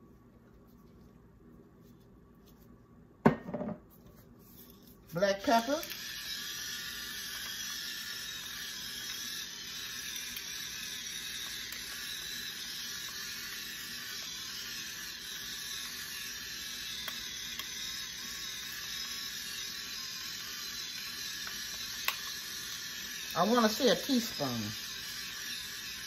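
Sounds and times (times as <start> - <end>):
pepper mill grinding: 4.5 - 26.0.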